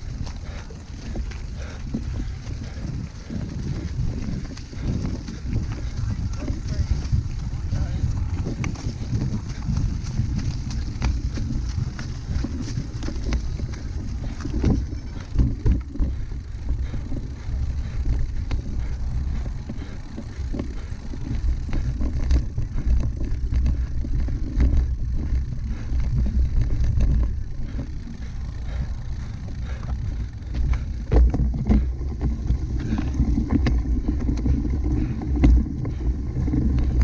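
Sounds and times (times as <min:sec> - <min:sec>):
bike rattling on rough ground: 0:00.0 - 0:37.0
wind rumbling on microphone: 0:00.0 - 0:37.0.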